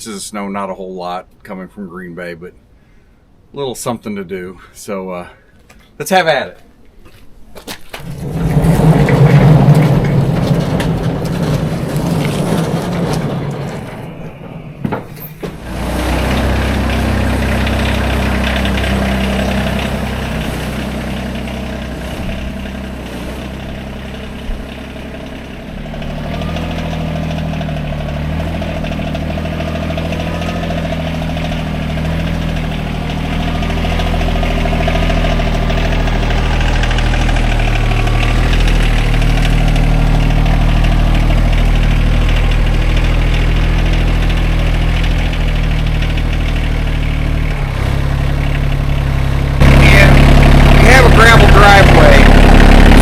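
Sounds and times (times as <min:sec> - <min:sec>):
tractor diesel engine running: 0:08.0 - 0:53.0.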